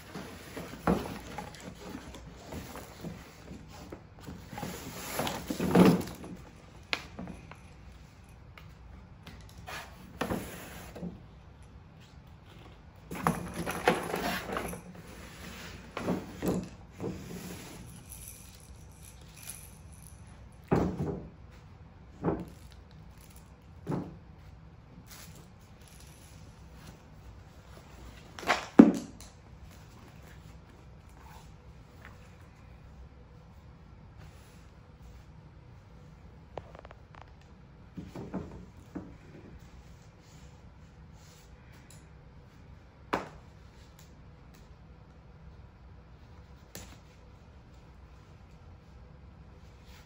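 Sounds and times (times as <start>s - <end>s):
rustling and scraping: 0.0s - 8.4s, 9.4s - 11.2s, 12.0s - 41.9s.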